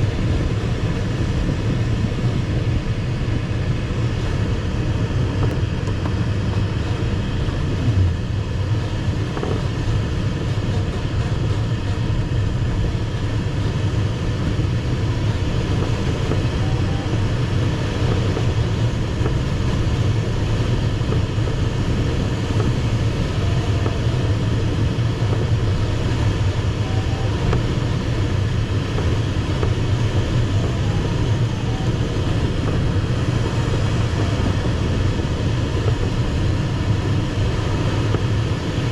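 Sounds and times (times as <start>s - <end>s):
airflow rushing around glider cockpit: 0.0s - 38.9s.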